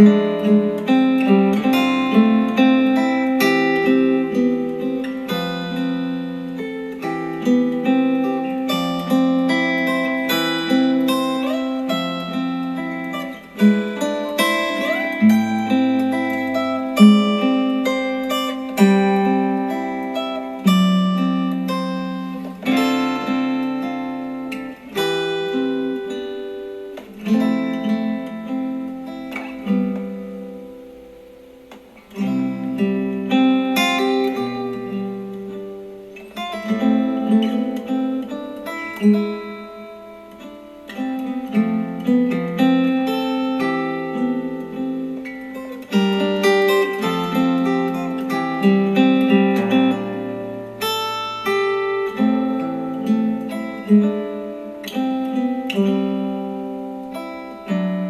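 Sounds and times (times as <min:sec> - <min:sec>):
acoustic guitar music on a speaker: 0:00.0 - 0:58.0.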